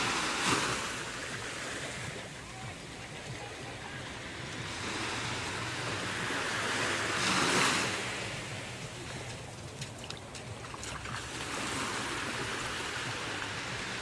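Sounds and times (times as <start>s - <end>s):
surf washing on a beach: 0.0s - 14.0s.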